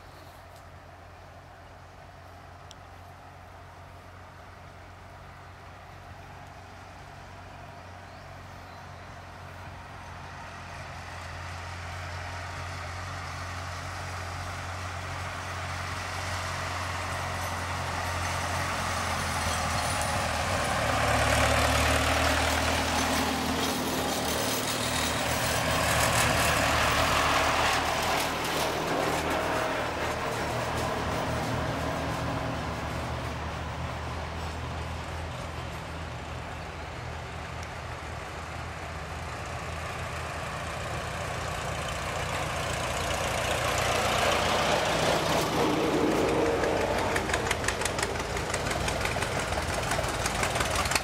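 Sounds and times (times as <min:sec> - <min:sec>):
tractor engines passing by: 0:00.0 - 0:51.0.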